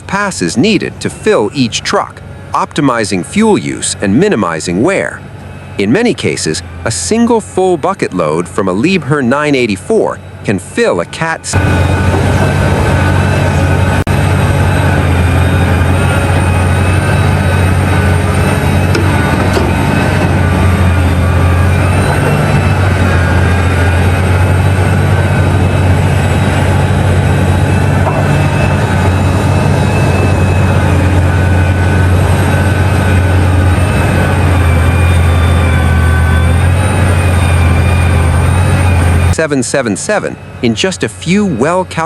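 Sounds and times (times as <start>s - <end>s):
diesel engines droning: 0.0s - 42.0s.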